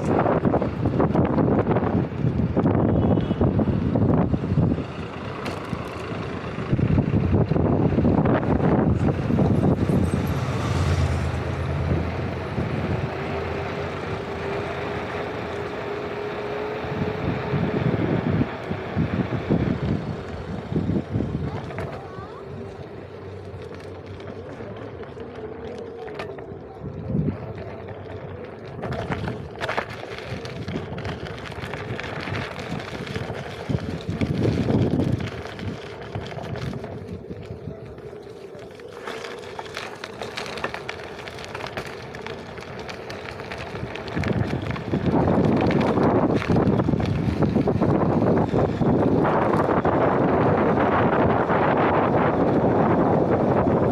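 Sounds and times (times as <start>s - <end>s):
wind buffeting microphone: 0.0s - 24.2s, 26.4s - 53.9s.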